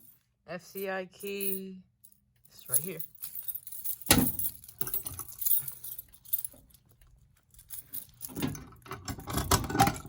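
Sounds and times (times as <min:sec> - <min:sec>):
keys jangling: 0:00.0 - 0:09.6.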